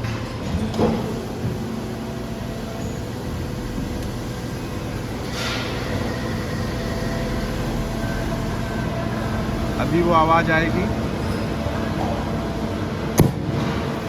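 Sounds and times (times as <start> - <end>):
hydraulic machine humming: 0.0 - 14.0.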